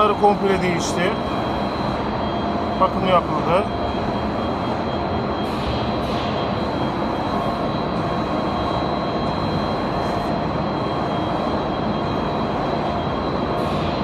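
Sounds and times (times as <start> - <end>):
high machine whine: 0.0 - 14.0.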